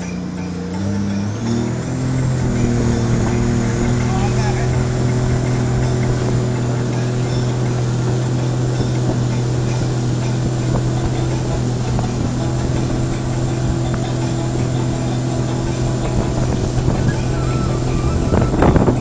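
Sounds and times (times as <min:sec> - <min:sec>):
speedboat engine droning: 0:00.0 - 0:19.0
wind and water rushing: 0:00.0 - 0:19.0.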